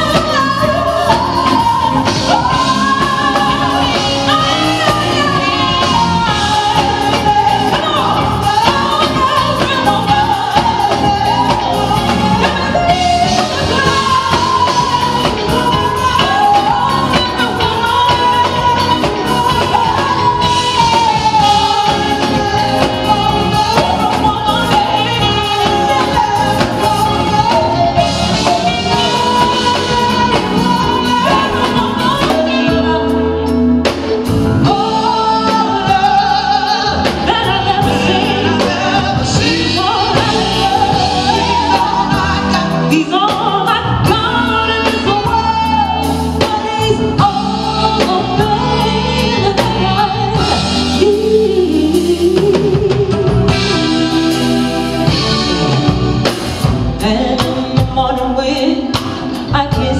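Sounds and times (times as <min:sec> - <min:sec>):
drums: 0:00.0 - 0:59.9
electric guitar: 0:00.0 - 0:59.9
woman singing: 0:00.0 - 0:59.9.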